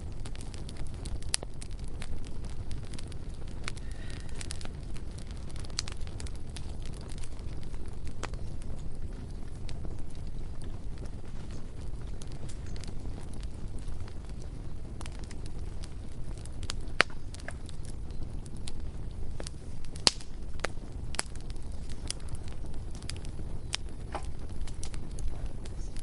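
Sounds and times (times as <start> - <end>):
bonfire crackling and popping: 0.0 - 26.0
steady low rumble: 0.0 - 26.0.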